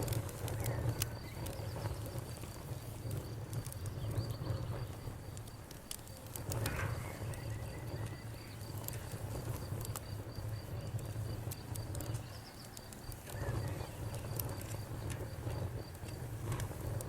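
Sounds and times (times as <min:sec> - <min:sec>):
campfire crackling and popping: 0:00.0 - 0:17.0
cricket trilling: 0:00.0 - 0:17.0.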